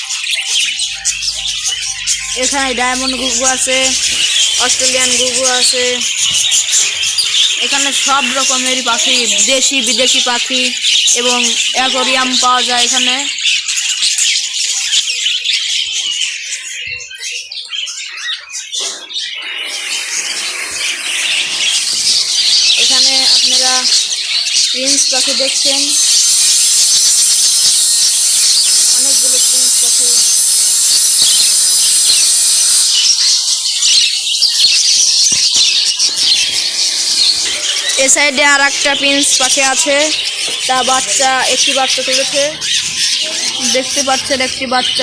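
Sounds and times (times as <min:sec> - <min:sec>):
small birds chirping: 0:00.0 - 0:45.0
steady hiss: 0:00.5 - 0:13.3, 0:19.4 - 0:45.0.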